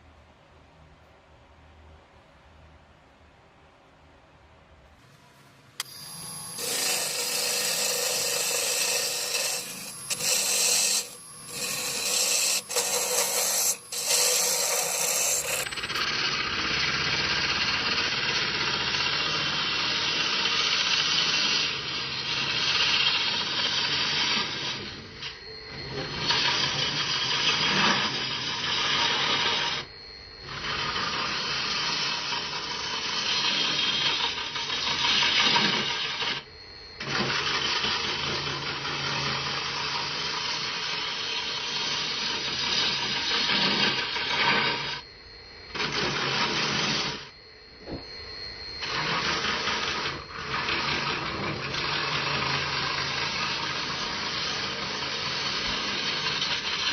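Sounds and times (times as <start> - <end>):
lathe tool scraping wood: 5.8 - 16.5, 17.4 - 45.0, 45.7 - 47.3, 48.8 - 56.9.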